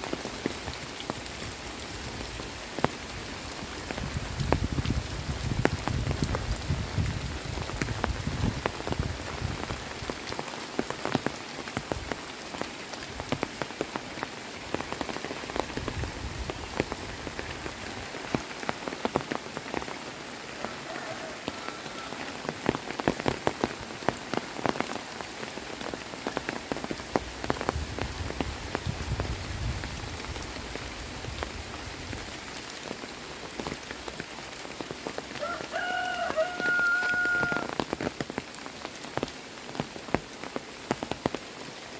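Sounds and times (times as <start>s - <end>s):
heavy rain falling: 0.0s - 41.9s
raindrops ticking: 0.0s - 41.9s.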